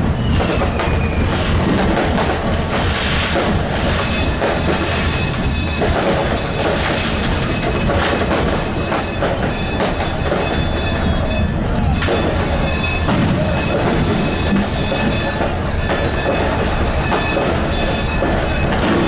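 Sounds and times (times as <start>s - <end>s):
fireworks banging and crackling: 0.0s - 19.0s
tram running rumble: 0.0s - 19.0s.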